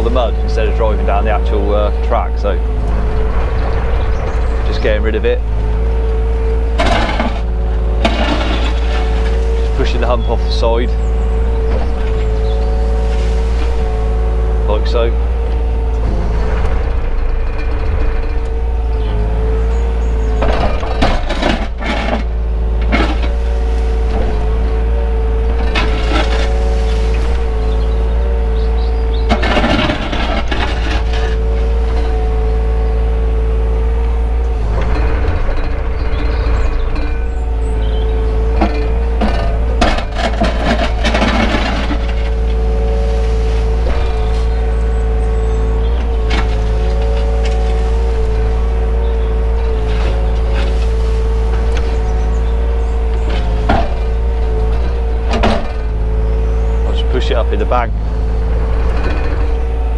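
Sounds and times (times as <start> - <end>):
bucket scraping mud: 0.0 - 59.9
excavator diesel engine running: 0.0 - 59.9
hydraulic whine: 0.0 - 59.9.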